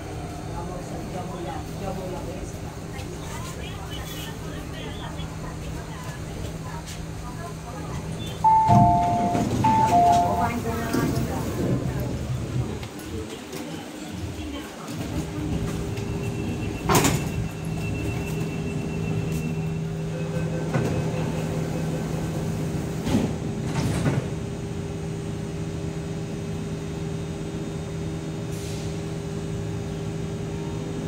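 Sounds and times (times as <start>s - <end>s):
train equipment humming: 0.0s - 25.6s.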